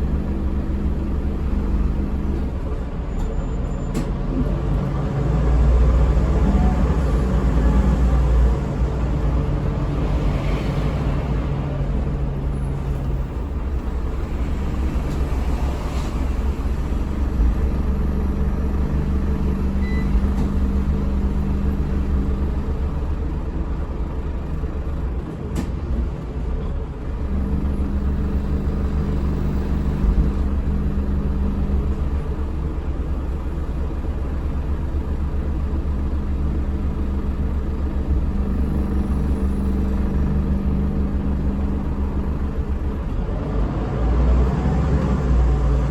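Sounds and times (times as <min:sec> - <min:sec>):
bus diesel engine droning: 0:00.0 - 0:45.9.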